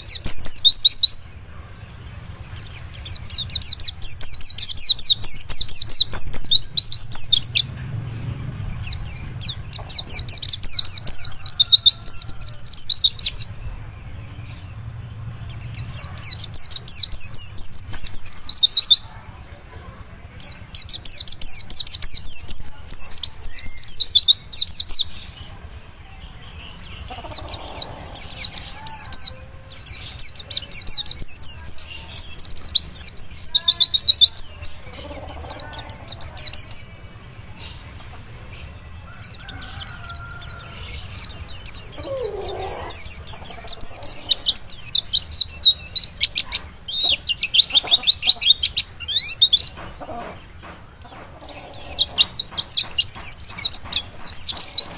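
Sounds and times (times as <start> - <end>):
bird twittering song: 0.0 - 54.9.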